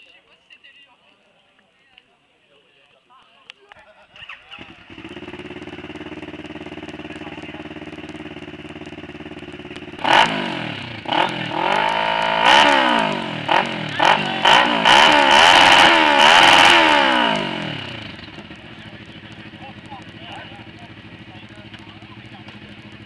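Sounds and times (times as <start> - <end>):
motorcycle engine idling and revving: 4.0 - 23.0.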